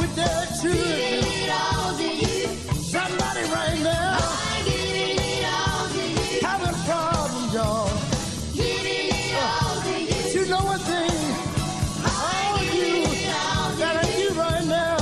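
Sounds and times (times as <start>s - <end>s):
bass: 0.0s - 15.0s
steady drum beat: 0.0s - 15.0s
young men singing in harmony: 0.0s - 15.0s.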